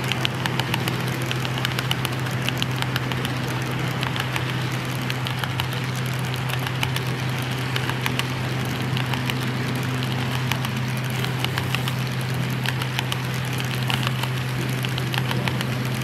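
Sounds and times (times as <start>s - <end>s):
low hum: 0.0s - 16.0s
model train wheels clicking: 0.0s - 16.0s.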